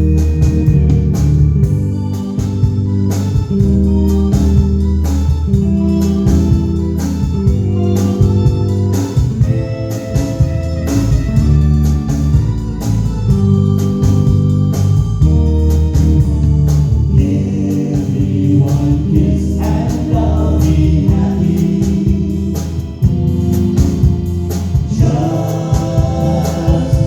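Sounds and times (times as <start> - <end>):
electric organ chords: 0.0 - 27.0
guitar: 0.0 - 27.0
hard-hit drum beat: 0.0 - 27.0.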